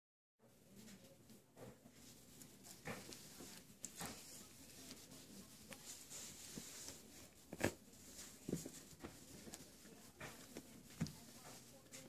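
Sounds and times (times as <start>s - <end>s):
puppies rustling in dog bed: 0.6s - 12.0s.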